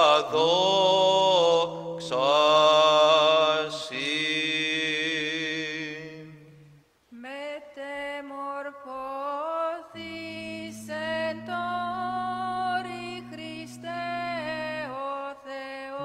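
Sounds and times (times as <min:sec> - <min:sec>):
low vocal drone: 0:00.0 - 0:06.8, 0:09.9 - 0:16.0
unaccompanied chant singing: 0:00.0 - 0:06.8, 0:09.7 - 0:16.0.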